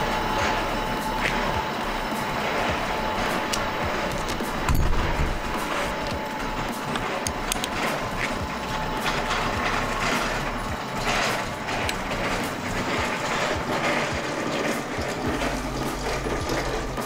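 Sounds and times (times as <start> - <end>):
granulator feed screws clattering: 3.1 - 17.0.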